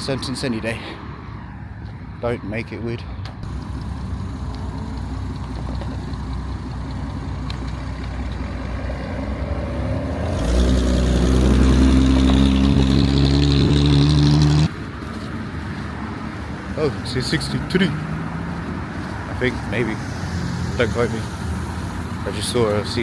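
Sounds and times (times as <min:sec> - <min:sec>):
car engine and exhaust: 0:00.0 - 0:23.0.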